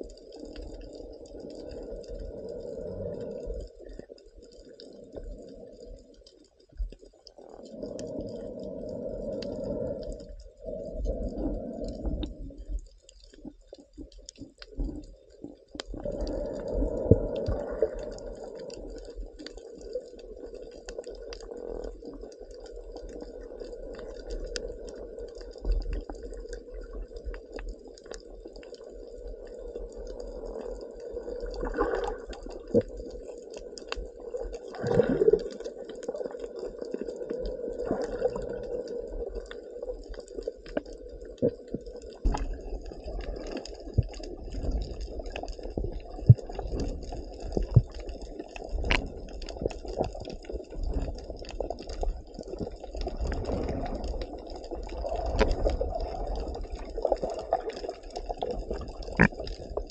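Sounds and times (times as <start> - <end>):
muffled underwater water movement: 0.0 - 59.9
small clicks underwater: 0.0 - 59.9.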